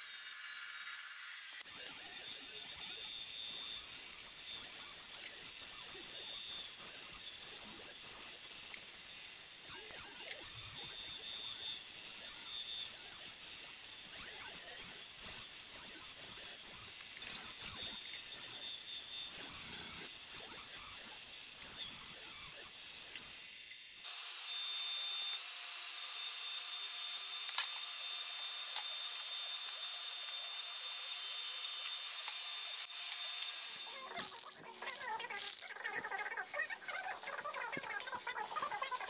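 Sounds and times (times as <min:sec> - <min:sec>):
bandsaw cutting wood: 0:00.0 - 0:39.0.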